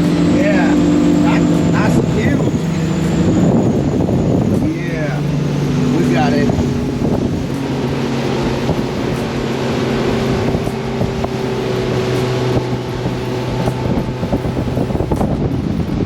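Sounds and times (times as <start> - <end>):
motorboat engine running: 0.0 - 16.0
water rushing past hull: 0.0 - 16.0
wind buffeting microphone: 0.0 - 16.0.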